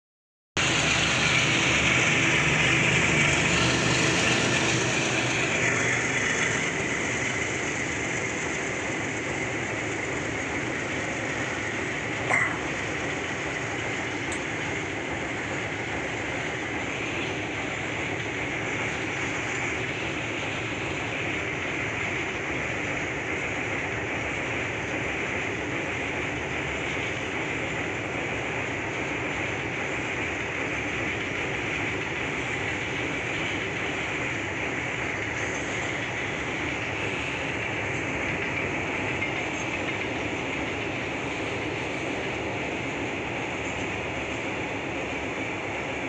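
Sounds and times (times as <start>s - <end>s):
freight train rolling on rails: 0.6s - 46.0s.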